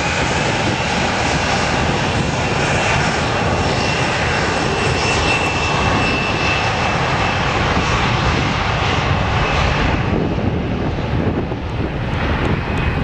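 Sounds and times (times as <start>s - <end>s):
jet engines at take-off power: 0.0s - 13.0s.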